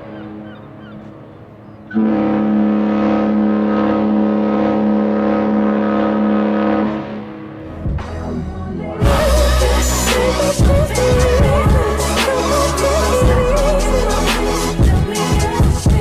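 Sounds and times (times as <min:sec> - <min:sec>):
ship horn blast: 0:00.0 - 0:15.3.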